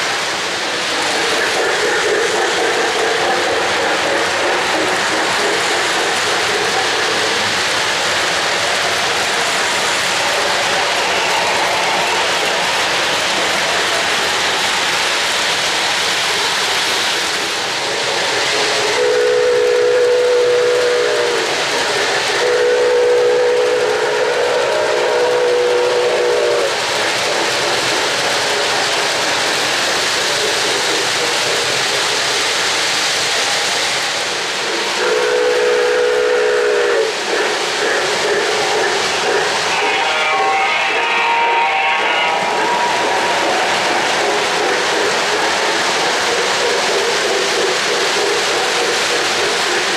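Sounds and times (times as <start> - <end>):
model trains rushing on track: 0.0 - 49.9.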